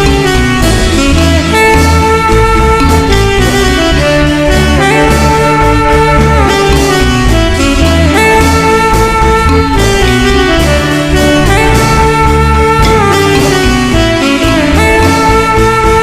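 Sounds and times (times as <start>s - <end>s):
marimba band music: 0.0s - 16.0s.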